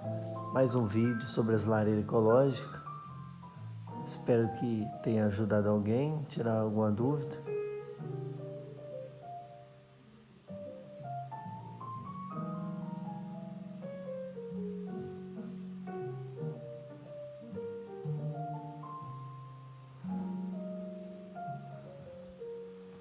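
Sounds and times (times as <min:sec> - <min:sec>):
soft mallet keyboard melody: 0:00.0 - 0:23.0.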